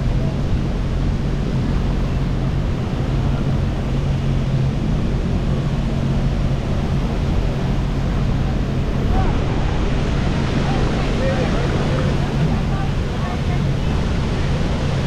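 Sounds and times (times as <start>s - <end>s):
water rushing: 0.0s - 15.0s
watercraft engine running: 0.0s - 15.0s
wind on microphone: 0.0s - 15.0s.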